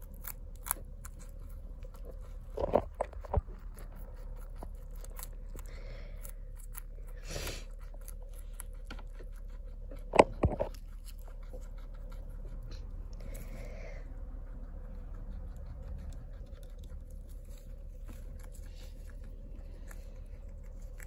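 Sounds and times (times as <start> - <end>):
rodent chewing leaf crunching: 0.0 - 21.0
steady low hum: 0.0 - 21.0.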